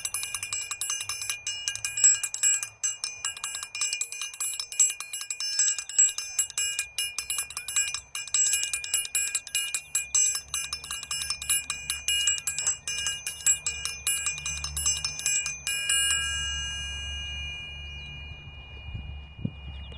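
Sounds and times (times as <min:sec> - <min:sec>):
small metal bell struck rapidly: 0:00.0 - 0:18.8
low hum: 0:00.0 - 0:19.9.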